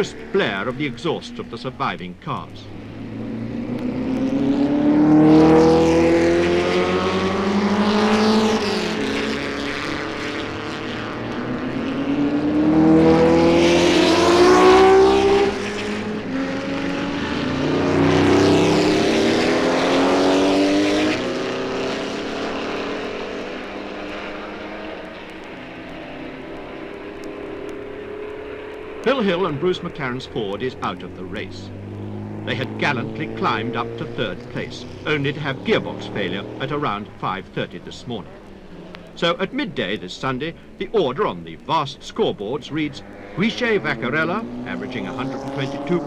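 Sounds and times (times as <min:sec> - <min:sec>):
racing cars accelerating past: 0:00.0 - 0:46.0.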